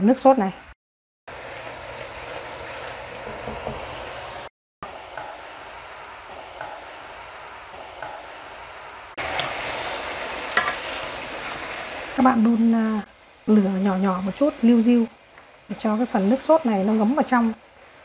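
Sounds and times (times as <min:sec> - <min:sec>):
sauce sizzling and bubbling: 0:01.3 - 0:04.5, 0:05.5 - 0:18.0.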